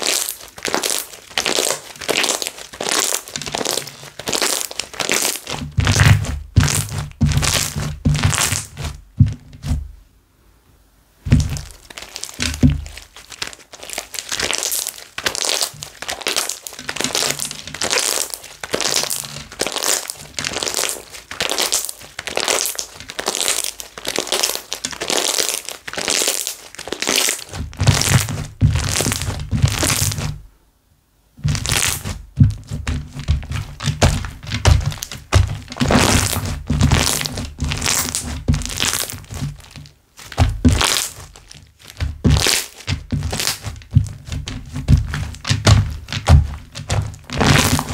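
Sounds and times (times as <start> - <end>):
slime squeezed with bubbles popping: 0.0 - 9.7, 11.3 - 30.4, 31.4 - 47.9.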